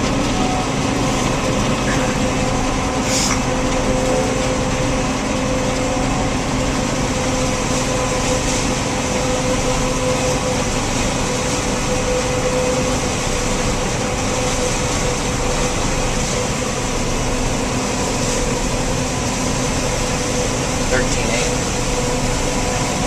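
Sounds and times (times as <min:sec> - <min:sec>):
constant machine whine: 0:00.0 - 0:23.0
harvest machinery drone: 0:00.0 - 0:23.0.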